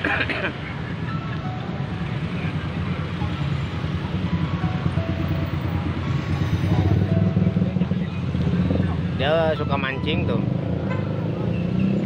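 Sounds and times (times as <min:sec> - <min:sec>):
engine rumble in traffic: 0:00.0 - 0:12.0.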